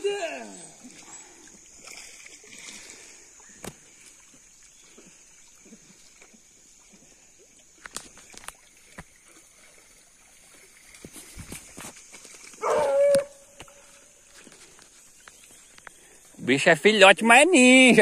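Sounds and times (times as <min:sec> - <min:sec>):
pond water sloshing and lapping: 0:00.0 - 0:18.0.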